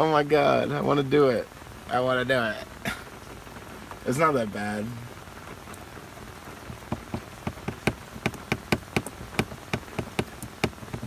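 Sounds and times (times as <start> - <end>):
heavy rain falling: 0.0 - 11.0
raindrops ticking close by: 0.0 - 11.0.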